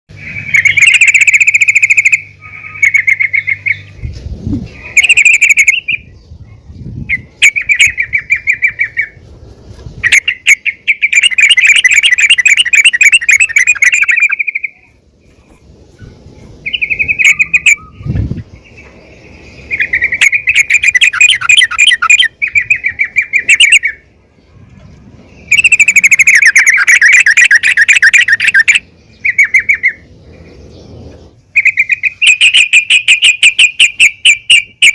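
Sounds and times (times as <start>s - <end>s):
bulbul chattering call: 0.1s - 6.2s, 10.0s - 24.1s, 25.3s - 34.9s.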